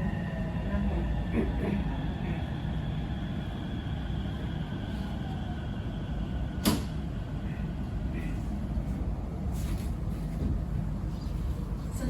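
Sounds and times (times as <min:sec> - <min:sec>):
train car low rumble: 0:00.0 - 0:12.0.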